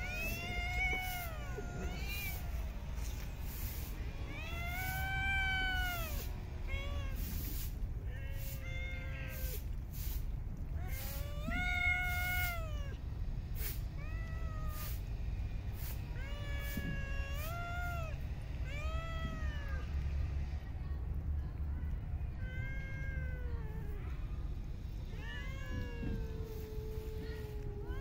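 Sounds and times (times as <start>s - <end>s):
cats meowing: 0.0s - 13.1s, 13.7s - 15.1s, 15.8s - 20.3s, 22.2s - 28.0s.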